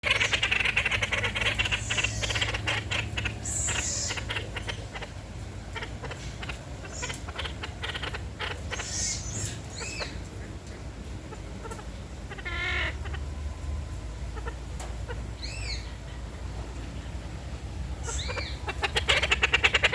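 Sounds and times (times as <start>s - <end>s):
parakeets chattering: 0.0s - 19.9s.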